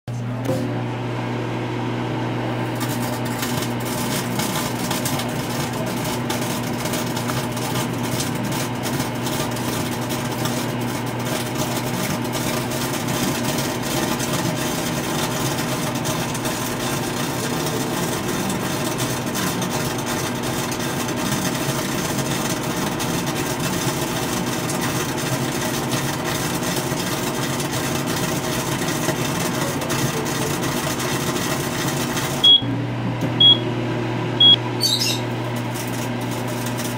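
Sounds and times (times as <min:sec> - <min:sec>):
microwave oven hum: 0:00.1 - 0:36.9.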